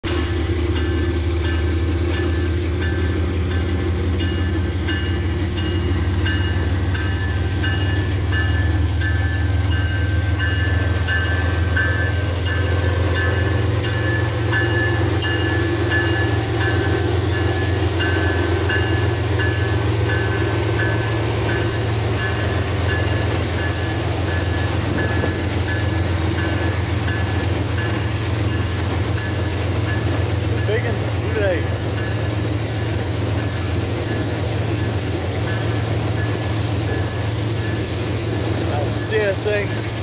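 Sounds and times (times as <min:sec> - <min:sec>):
locomotive engine drone: 0:00.0 - 0:40.0
train rumbling by: 0:00.0 - 0:40.0
bell ringing: 0:00.1 - 0:32.3.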